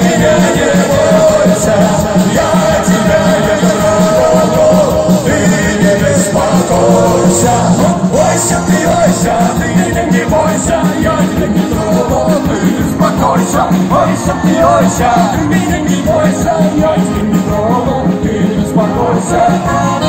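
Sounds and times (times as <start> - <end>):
bass: 0.0 - 20.0
button accordion: 0.0 - 20.0
drums: 0.0 - 20.0
electric guitars: 0.0 - 20.0.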